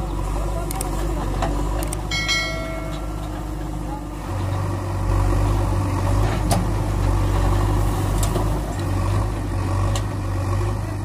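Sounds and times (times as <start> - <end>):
heavy vehicle engine idling: 0.0 - 11.0.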